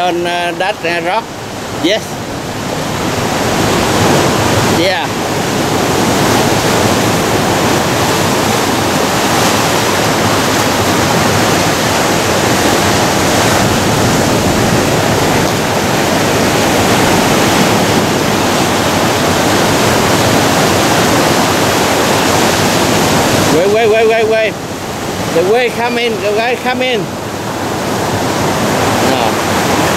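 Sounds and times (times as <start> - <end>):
ocean surf breaking on rocks: 0.0 - 29.9.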